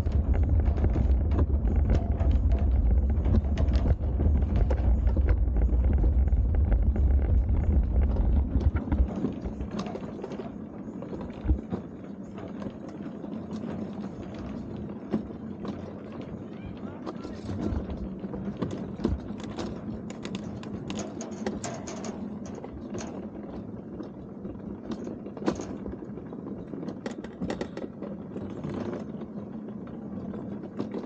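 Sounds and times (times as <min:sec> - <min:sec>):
sled rumbling down steel track: 0:00.0 - 0:31.0.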